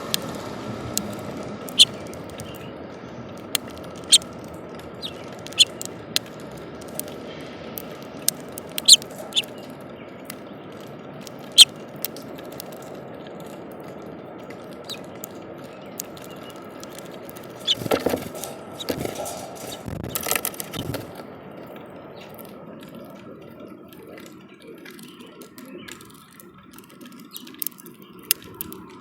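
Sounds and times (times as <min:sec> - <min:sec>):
bird pecking seeds: 0:00.0 - 0:29.0.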